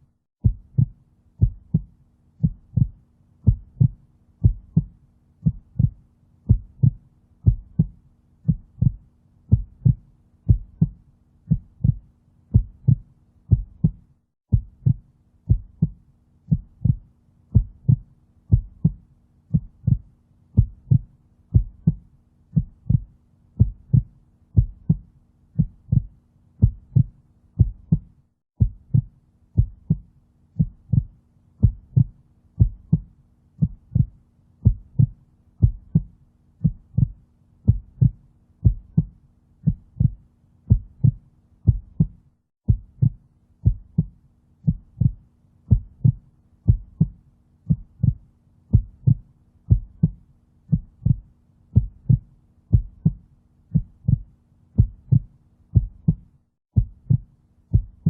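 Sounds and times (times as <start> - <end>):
heartbeat thumps: 0.4 - 22.0, 22.6 - 51.2, 51.8 - 58.0.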